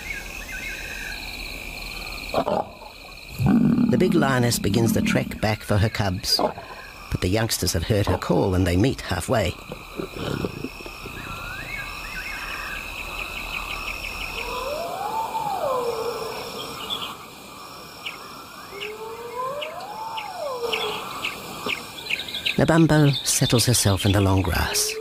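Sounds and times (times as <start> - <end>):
insects trilling and chirping: 0.0 - 25.0.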